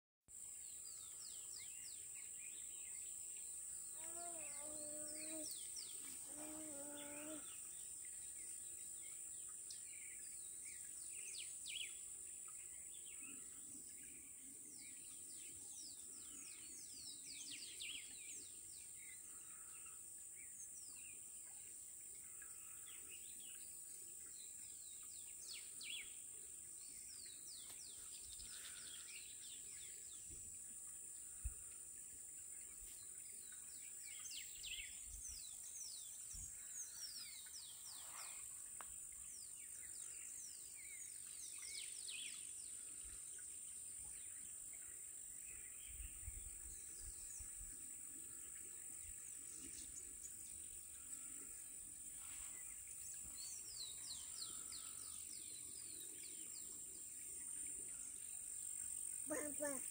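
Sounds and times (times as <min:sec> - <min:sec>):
steady high-pitched hiss: 0:00.3 - 0:59.9.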